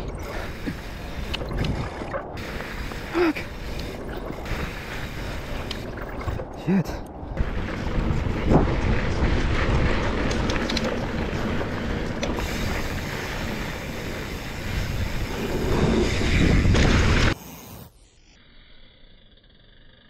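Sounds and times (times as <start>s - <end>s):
bike tyres skidding over dirt: 0.0s - 6.4s, 7.4s - 17.4s
wind on microphone: 0.0s - 6.5s, 7.2s - 17.4s.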